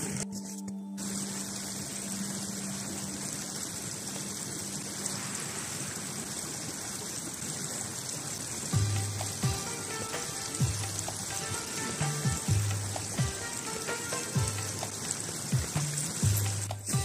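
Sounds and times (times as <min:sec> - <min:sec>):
water rushing over rocks: 0:01.0 - 0:17.0.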